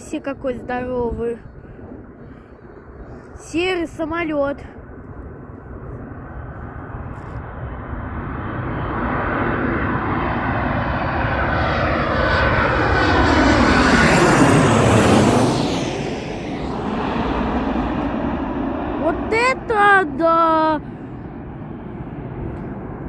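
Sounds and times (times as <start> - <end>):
jet airliner passing overhead: 0.0 - 23.0.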